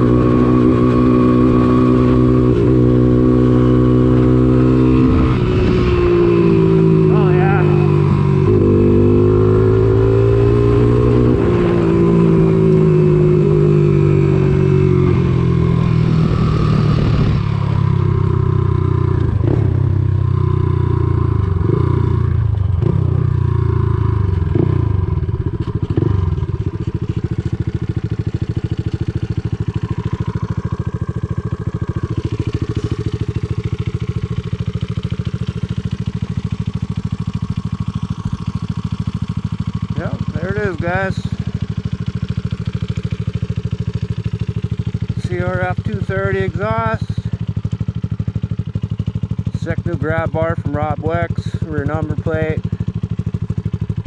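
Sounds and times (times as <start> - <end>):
single-cylinder engine revving and idling: 0.0 - 54.0.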